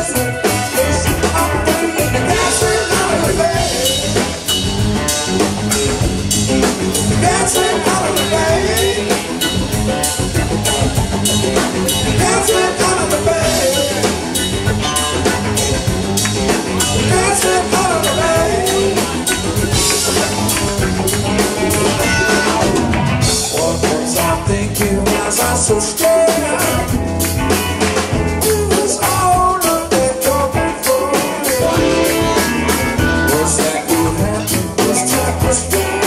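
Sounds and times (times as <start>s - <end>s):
drum kit beat: 0.0s - 36.0s
electric bass: 0.0s - 36.0s
electric guitar: 0.0s - 36.0s.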